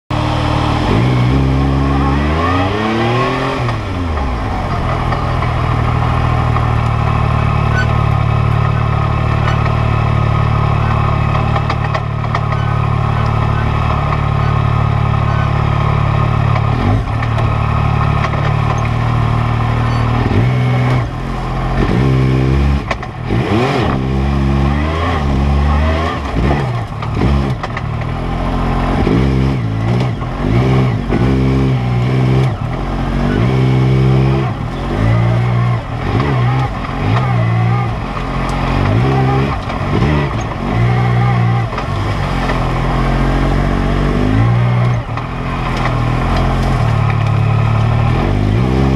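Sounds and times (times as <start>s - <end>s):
engine revving in bursts: 0.1s - 48.9s.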